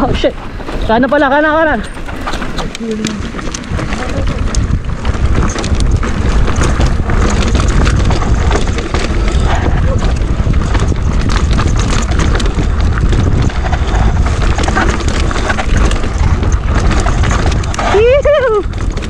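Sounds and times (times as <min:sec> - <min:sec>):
bike tyres clattering over rocks: 0:00.0 - 0:19.0
wind buffeting microphone: 0:00.0 - 0:19.0.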